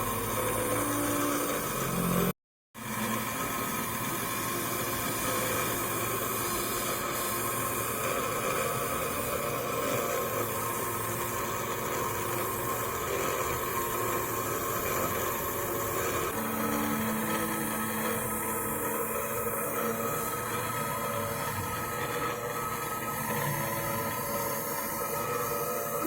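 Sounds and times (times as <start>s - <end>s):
small motor humming: 0.0s - 26.0s.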